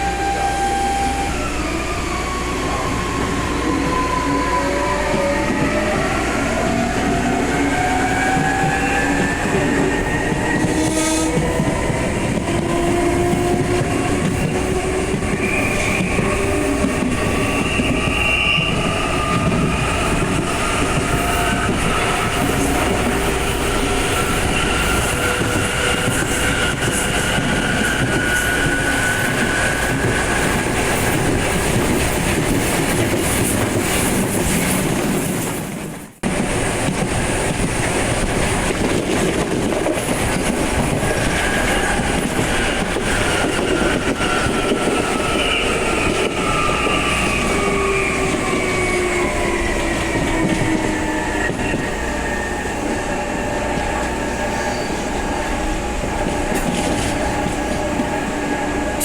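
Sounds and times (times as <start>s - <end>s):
train wheels clattering on rails: 5.0s - 59.0s.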